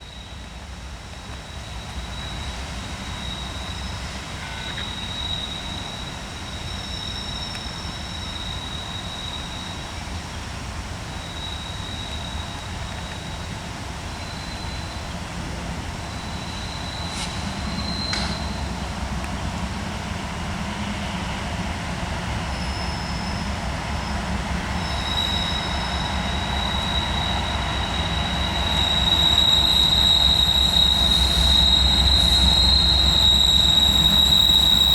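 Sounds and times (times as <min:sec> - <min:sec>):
train rumbling: 0:00.0 - 0:34.9
wheel squeals: 0:01.2 - 0:19.1, 0:22.4 - 0:34.9.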